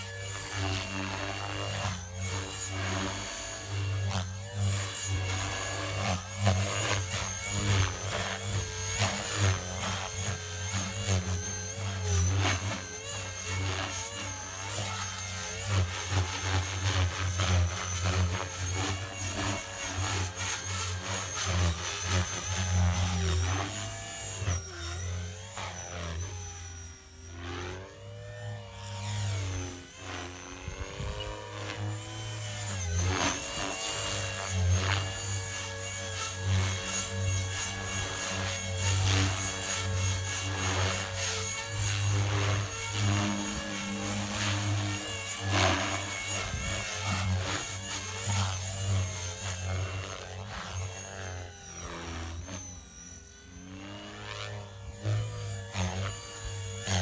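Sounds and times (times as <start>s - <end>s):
rc helicopter motor whine: 0.0s - 57.0s.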